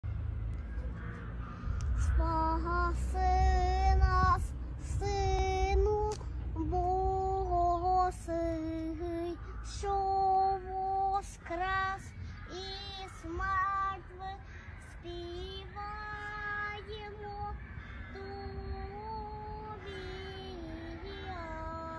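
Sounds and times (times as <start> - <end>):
small child singing: 2.1 - 14.4, 15.0 - 21.9.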